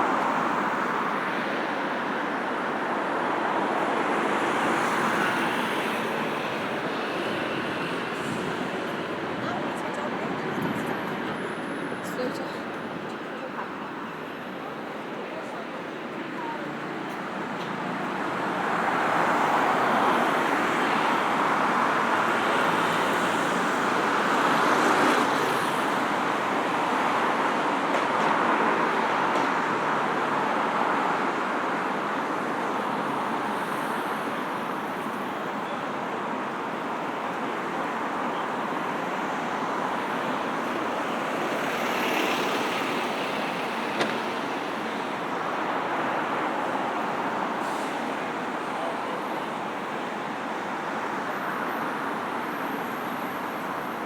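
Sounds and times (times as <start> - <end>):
cars passing on busy road: 0.0 - 54.0.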